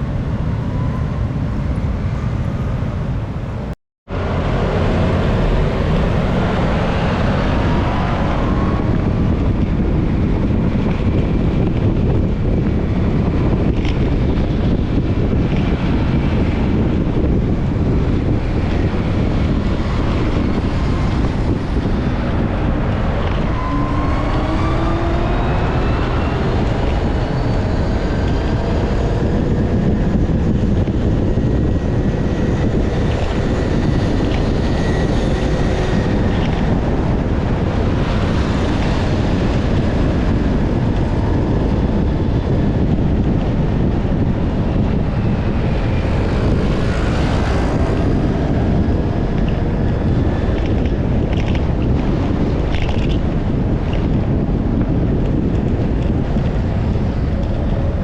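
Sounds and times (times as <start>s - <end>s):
engine whines: 0.0s - 58.0s
wind rushing over microphone: 0.0s - 58.0s.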